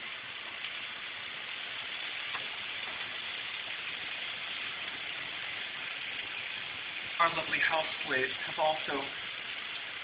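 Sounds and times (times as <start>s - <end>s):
peppers sizzling in a pan: 0.0s - 10.0s.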